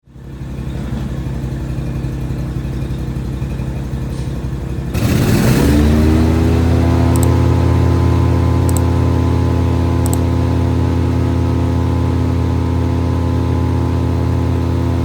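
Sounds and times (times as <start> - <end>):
wood chipper engine running: 0.1 - 15.0.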